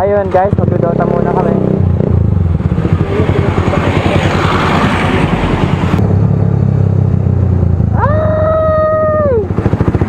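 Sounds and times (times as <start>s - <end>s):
loud motorcycle exhaust: 0.0s - 10.0s.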